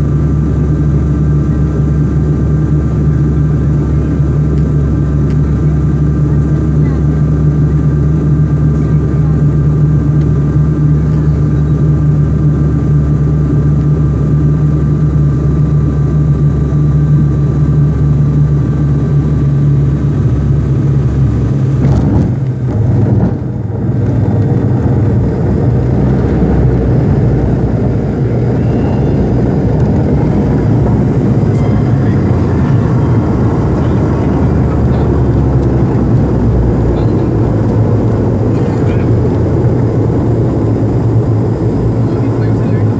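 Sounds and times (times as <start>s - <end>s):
jet engines drone: 0.0s - 42.9s.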